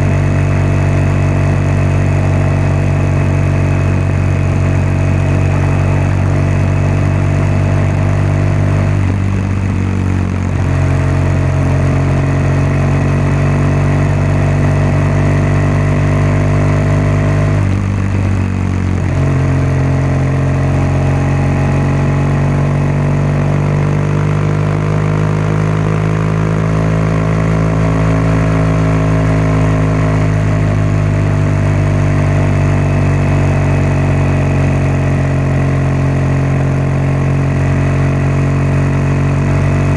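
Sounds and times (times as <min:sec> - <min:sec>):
motorcycle exhaust cruising: 0:00.0 - 0:39.9.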